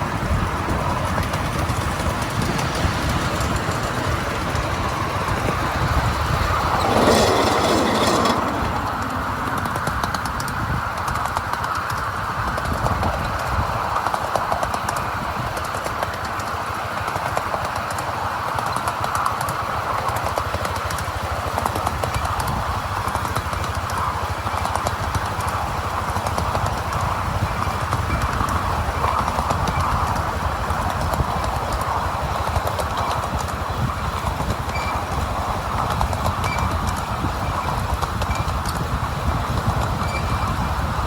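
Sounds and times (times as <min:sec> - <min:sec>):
miniature train rumbling: 0:00.0 - 0:41.0
wheels clicking on rails: 0:00.0 - 0:41.0.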